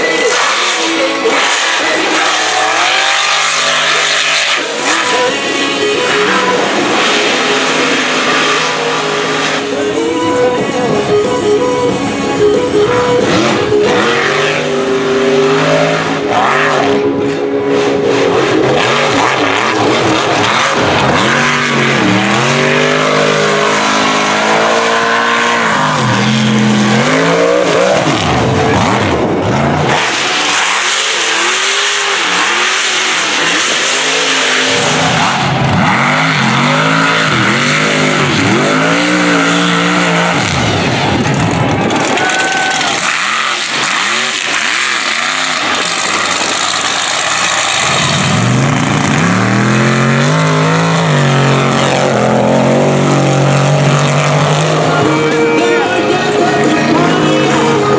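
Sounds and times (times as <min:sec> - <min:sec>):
truck engines revving: 0:00.0 - 0:57.9.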